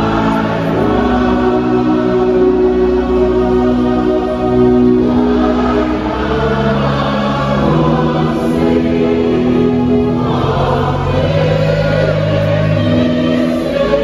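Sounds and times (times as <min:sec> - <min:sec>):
congregation singing a hymn: 0:00.0 - 0:14.0
organ chords: 0:00.0 - 0:14.0.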